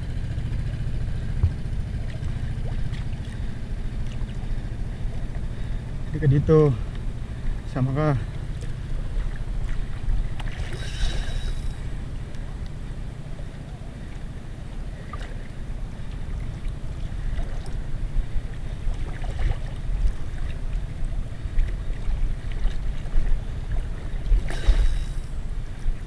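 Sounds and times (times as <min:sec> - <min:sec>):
water lapping: 0:00.0 - 0:26.0.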